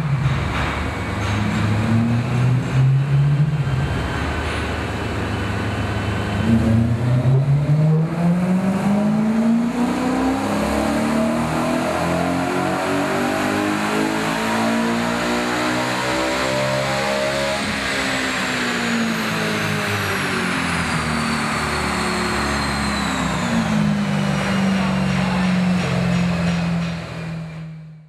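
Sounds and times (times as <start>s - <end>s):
car engine revving on dyno: 1.0s - 27.8s.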